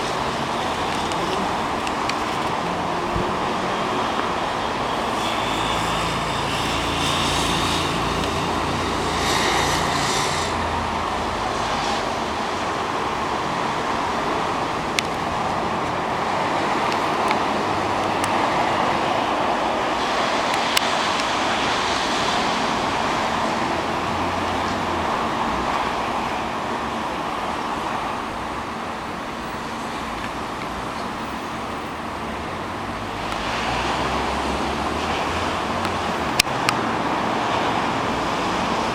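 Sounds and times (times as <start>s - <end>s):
rushing water: 0.0s - 38.9s
wind noise: 0.0s - 38.9s.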